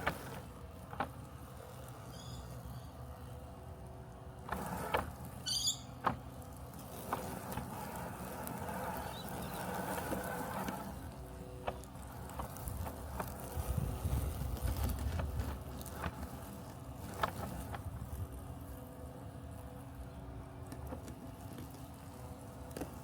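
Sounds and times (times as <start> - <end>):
robotic lawn mower humming: 0.0 - 23.0.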